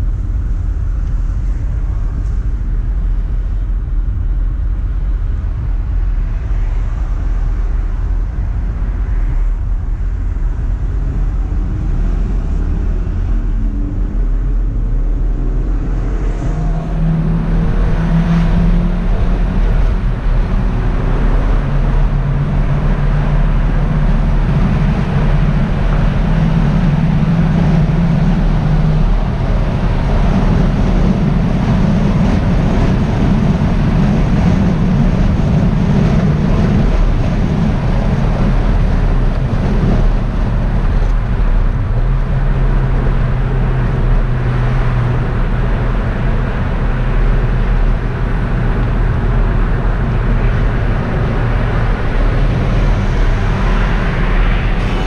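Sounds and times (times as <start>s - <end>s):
car engine drone in cabin: 0.0s - 55.0s
tyre and road noise: 0.0s - 55.0s.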